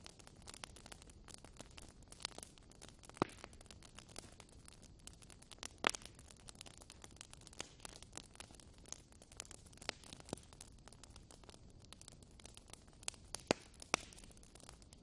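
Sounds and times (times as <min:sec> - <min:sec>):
wood crackling in a fireplace: 0:00.0 - 0:15.0.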